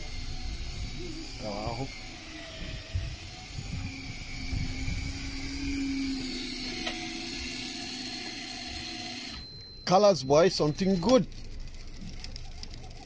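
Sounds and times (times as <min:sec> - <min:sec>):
electric fishing reel whining: 0:00.0 - 0:13.0.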